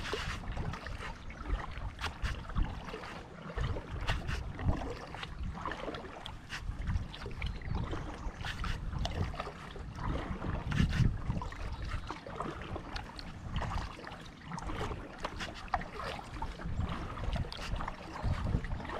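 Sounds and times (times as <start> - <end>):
paddle splashing water: 0.0 - 18.9
wind rumble on microphone: 0.0 - 18.9.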